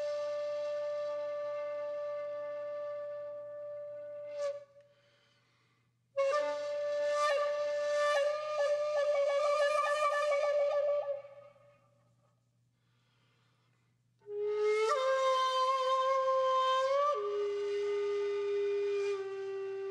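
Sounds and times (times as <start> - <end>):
flute-like wind instrument music: 0.0 - 4.8, 6.2 - 11.8, 14.2 - 19.9.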